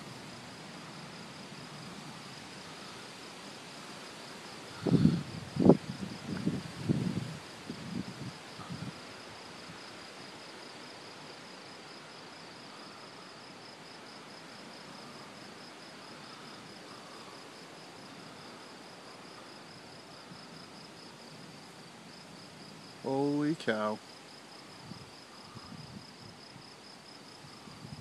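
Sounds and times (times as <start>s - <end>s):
background hiss: 0.0s - 28.0s
crickets chirping: 0.0s - 28.0s.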